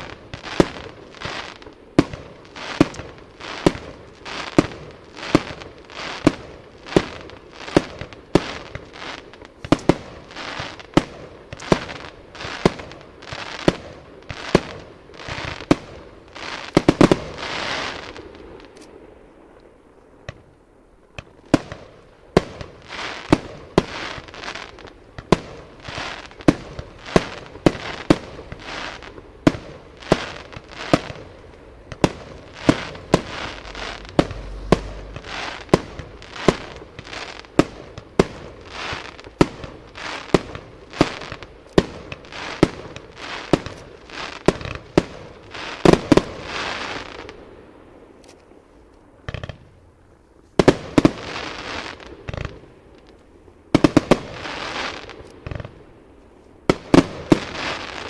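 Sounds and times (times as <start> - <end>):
fireworks bursting: 0.0 - 58.0
fireworks crackling: 0.0 - 58.0.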